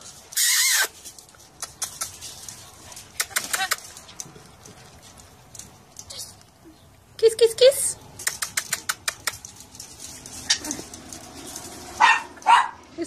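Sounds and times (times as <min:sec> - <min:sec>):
soft clicks and rustles: 0:00.0 - 0:07.1, 0:08.1 - 0:12.5.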